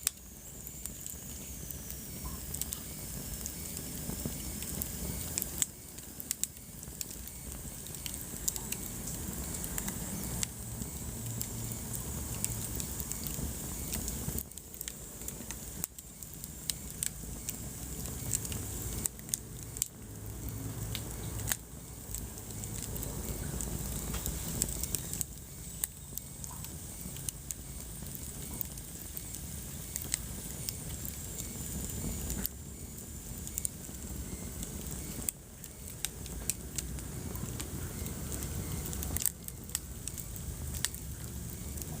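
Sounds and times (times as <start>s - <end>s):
fire rumbling: 0.0s - 42.0s
wood crackling and popping: 0.0s - 42.0s.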